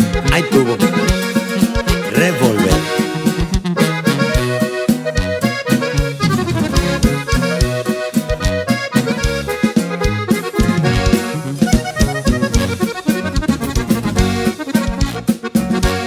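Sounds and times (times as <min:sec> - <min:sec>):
accordion melody: 0:00.0 - 0:16.0
bass and drum beat: 0:00.0 - 0:16.0.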